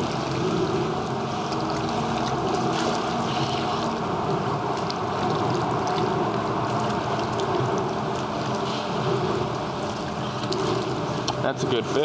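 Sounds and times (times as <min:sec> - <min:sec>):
water lapping and sloshing: 0:00.0 - 0:12.0.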